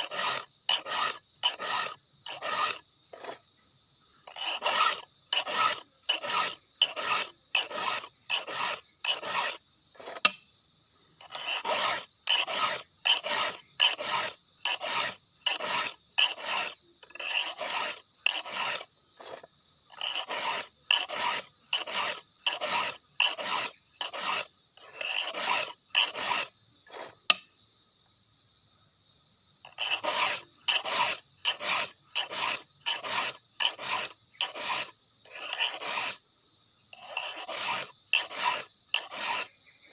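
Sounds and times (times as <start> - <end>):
hand file rasping chainsaw chain: 0.0 - 3.4, 4.3 - 10.4, 11.2 - 27.2, 29.6 - 36.2, 36.9 - 39.6.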